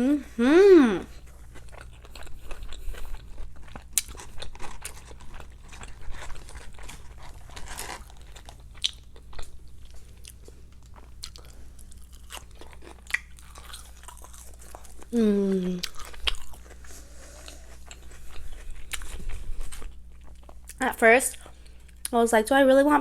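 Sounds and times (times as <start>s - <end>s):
person chewing and crunching food: 1.0s - 22.2s.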